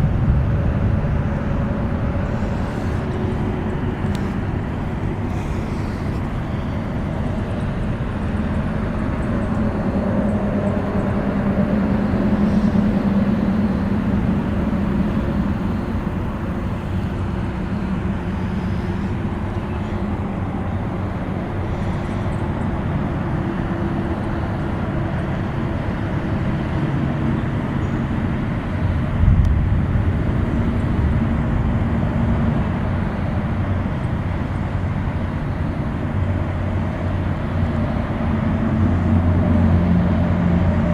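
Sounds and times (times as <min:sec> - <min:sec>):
highway traffic rumble: 0:00.0 - 0:40.9.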